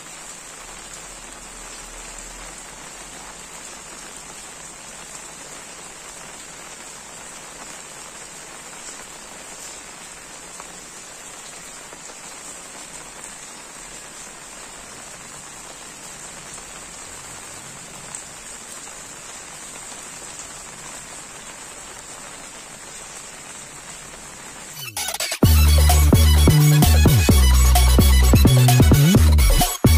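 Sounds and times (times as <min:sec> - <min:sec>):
heavy rain falling: 0:00.0 - 0:24.8.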